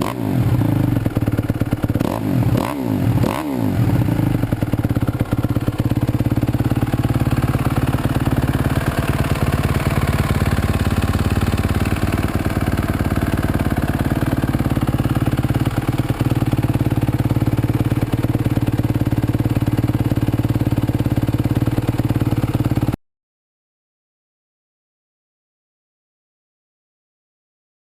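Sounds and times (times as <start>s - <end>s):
motocross engine idling: 0.0s - 23.0s.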